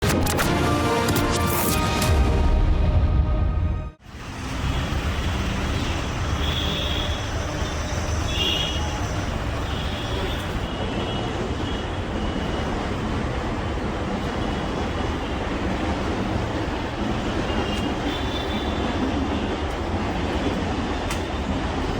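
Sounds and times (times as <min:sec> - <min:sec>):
traffic noise: 0:01.8 - 0:21.9.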